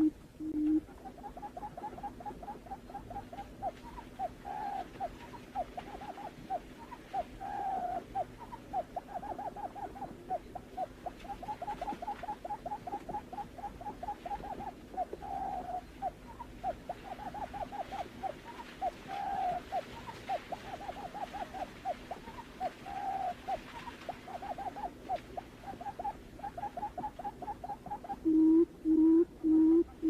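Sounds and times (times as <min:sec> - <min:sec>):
bird hooting call: 0:00.0 - 0:30.0
faint hum: 0:00.0 - 0:30.0.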